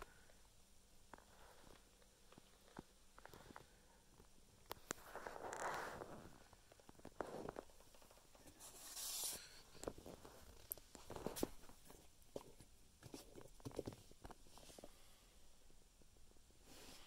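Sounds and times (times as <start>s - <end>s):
soft rustle: 1.1s - 17.0s.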